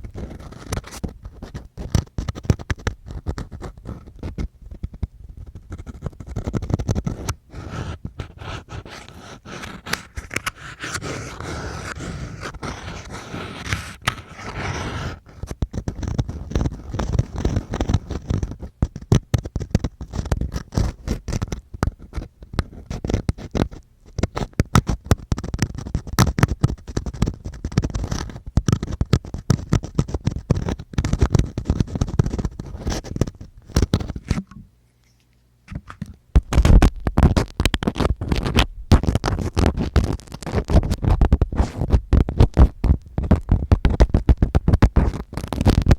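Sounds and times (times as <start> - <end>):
ear-cleaning scratching: 5.4 - 34.5, 36.4 - 45.9.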